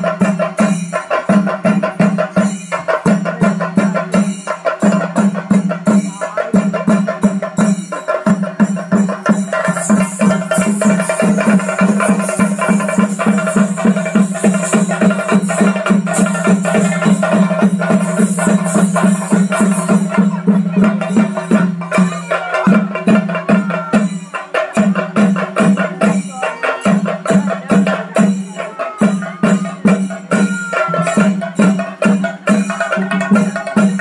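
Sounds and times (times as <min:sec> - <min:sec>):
drums in fast rhythm: 0:00.0 - 0:34.0.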